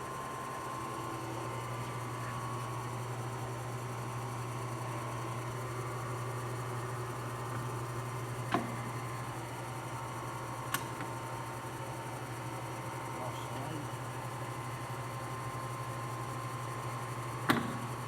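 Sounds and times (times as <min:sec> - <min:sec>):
lathe humming with faint whine: 0:00.0 - 0:18.0.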